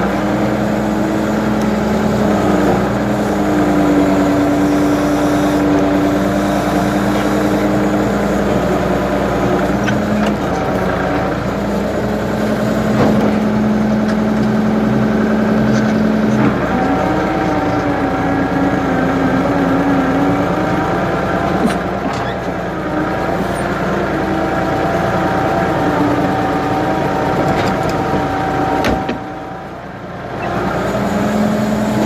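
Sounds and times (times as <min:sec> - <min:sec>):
backhoe engine running: 0:00.0 - 0:32.0.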